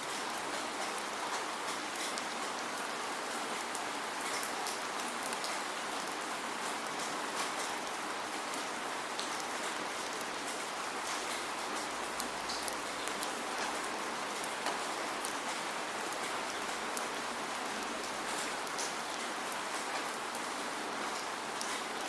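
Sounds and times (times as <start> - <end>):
raindrops ticking on a surface: 0.0 - 22.0
steady rain hiss: 0.0 - 22.0.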